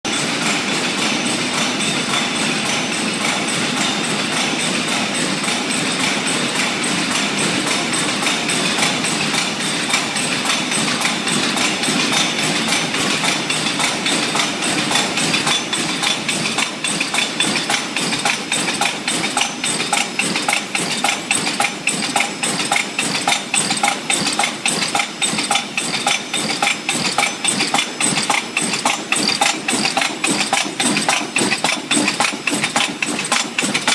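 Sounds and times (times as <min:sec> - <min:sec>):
steady mechanical din: 0:00.1 - 0:33.9.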